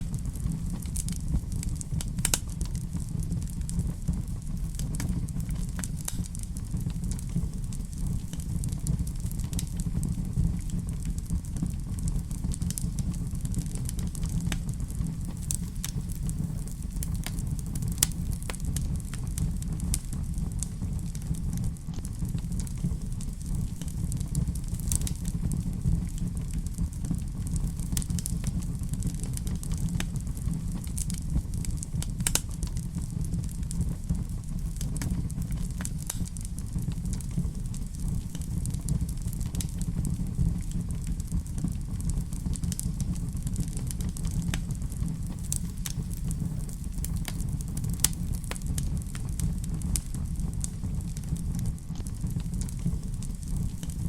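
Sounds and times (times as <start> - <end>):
fire burning in fireplace: 0.0 - 54.0.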